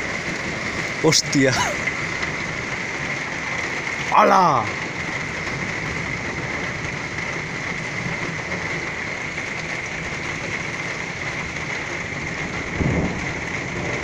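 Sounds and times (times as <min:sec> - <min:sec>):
torrential rain pouring: 0:00.0 - 0:14.0.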